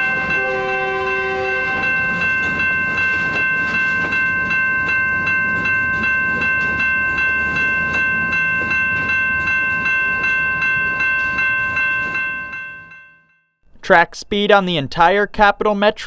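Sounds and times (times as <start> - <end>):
passing freight train rumble: 0.0 - 13.0
crossing bell ringing: 0.0 - 13.6.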